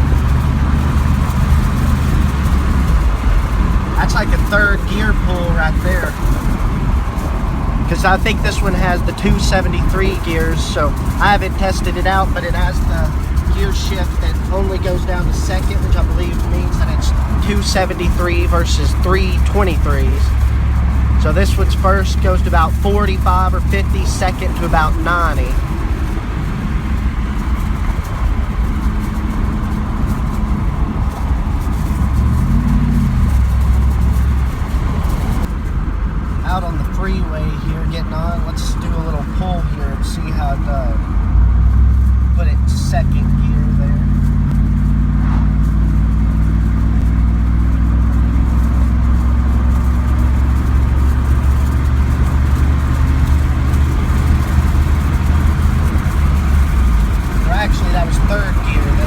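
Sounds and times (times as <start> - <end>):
car engine rumbling: 0.0 - 59.0
road noise: 0.0 - 59.0.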